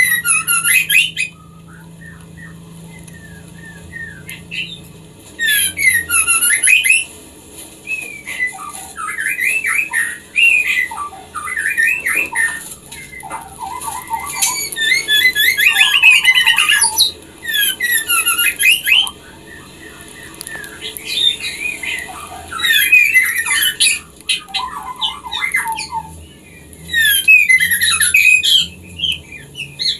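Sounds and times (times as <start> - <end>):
bird whistling and chattering: 0.0 - 7.1, 7.8 - 29.9.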